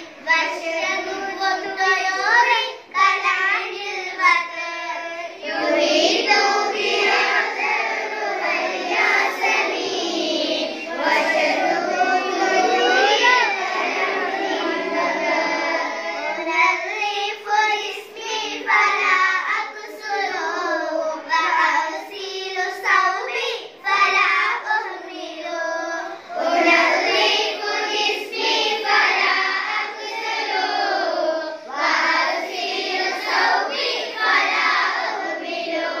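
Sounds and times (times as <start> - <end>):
girls singing in unison: 0.0 - 36.0.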